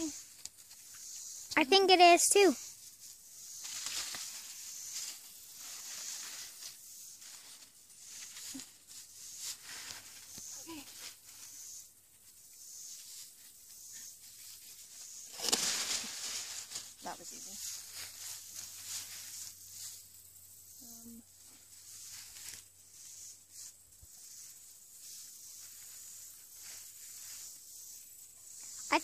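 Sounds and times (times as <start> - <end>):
sunflower leaves rustling: 0.0 - 29.0.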